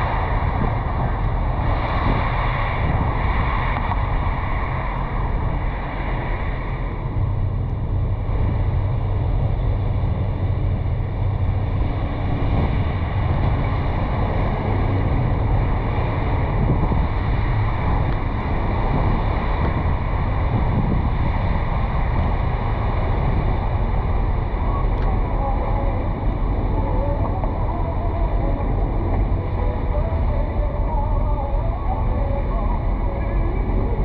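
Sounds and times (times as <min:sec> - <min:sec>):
wind rushing: 0:00.0 - 0:31.3
low road rumble: 0:00.0 - 0:34.0.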